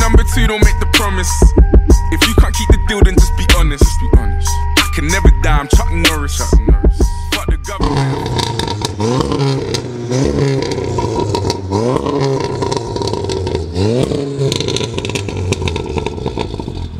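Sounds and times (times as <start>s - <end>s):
car engine idling and revving: 0.0s - 16.9s
exhaust crackling: 0.0s - 16.9s.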